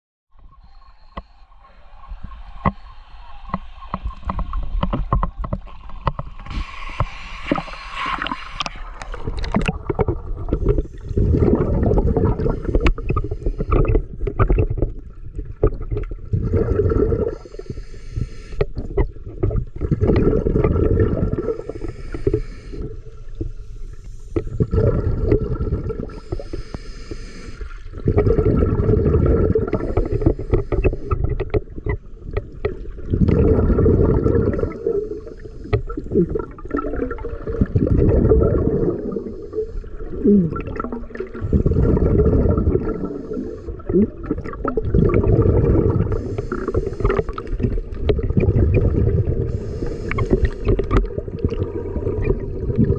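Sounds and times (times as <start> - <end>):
underwater breath bubbles: 0.6 - 52.9
water lapping and splashing: 1.1 - 26.8, 27.5 - 52.9.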